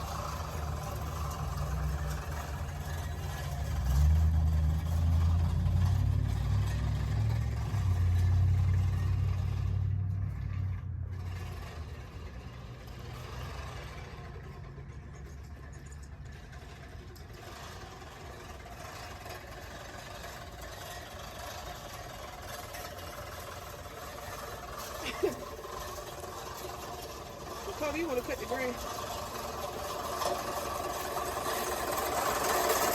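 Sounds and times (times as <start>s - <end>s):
low engine-like hum: 0.0s - 32.9s
reel mower blades whirring: 0.0s - 32.9s.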